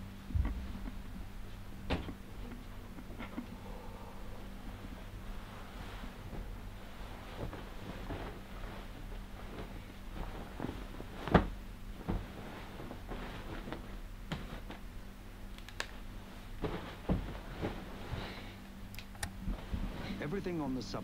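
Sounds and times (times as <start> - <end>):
bedsheets rustling: 0.0 - 21.0
faint steady hum: 0.0 - 21.0.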